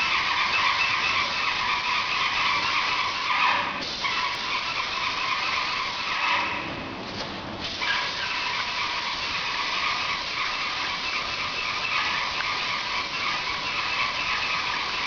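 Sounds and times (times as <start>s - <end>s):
paint sprayer hissing: 0.1s - 6.5s, 7.6s - 15.0s.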